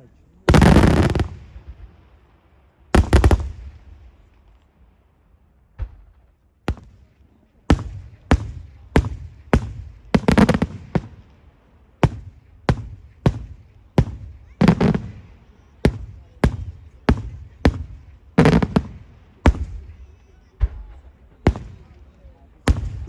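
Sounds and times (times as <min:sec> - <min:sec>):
fireworks bursting with sharp bangs: 0:00.4 - 0:23.0.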